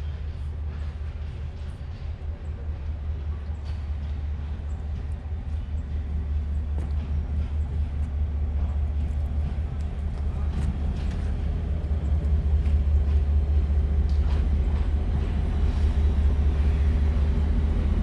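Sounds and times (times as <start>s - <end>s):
train rumbling along track: 0.0s - 18.0s.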